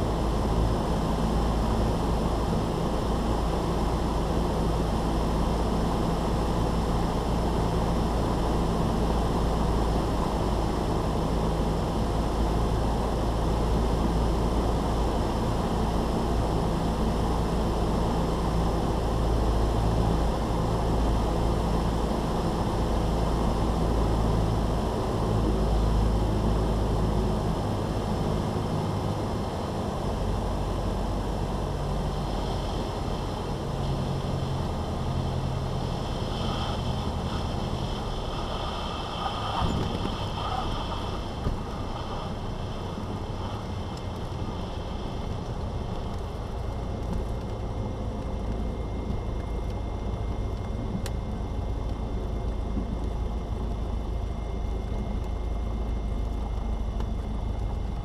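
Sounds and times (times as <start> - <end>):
rushing wind: 0.0 - 51.8
light aircraft engine and propeller: 0.0 - 58.0.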